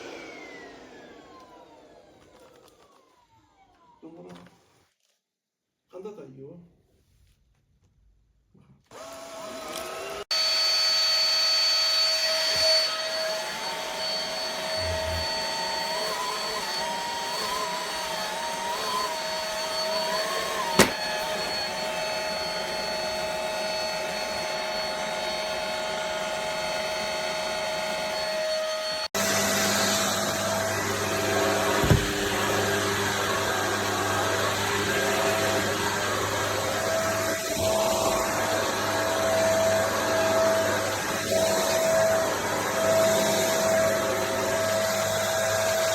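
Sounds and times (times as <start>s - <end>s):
vacuum cleaner motor whine: 0.0s - 4.0s, 8.9s - 45.9s.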